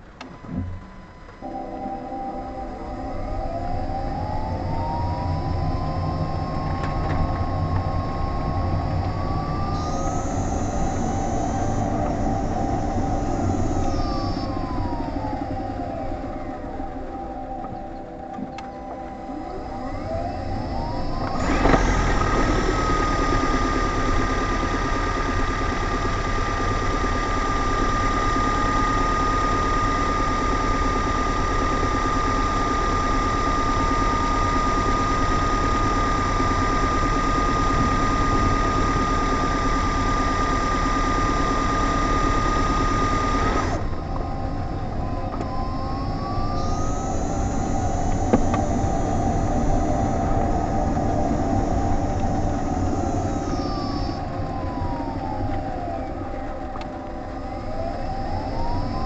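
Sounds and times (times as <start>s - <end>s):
high rising whine: 0.0s - 59.0s
road and drivetrain noise: 0.0s - 59.0s.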